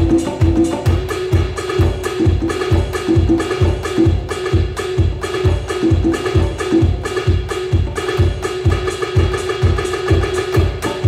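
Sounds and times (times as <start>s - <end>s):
hand-drum tones: 0.0s - 11.0s
low drum beats: 0.0s - 11.0s.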